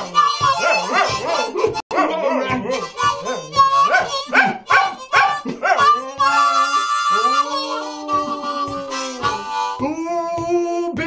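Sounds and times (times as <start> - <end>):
dog howling: 0.0 - 9.4
harmonica playing blues notes: 0.0 - 10.1.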